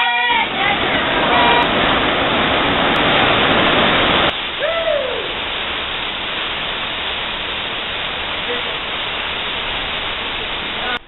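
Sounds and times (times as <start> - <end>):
water rushing in rocky stream: 0.0 - 11.0.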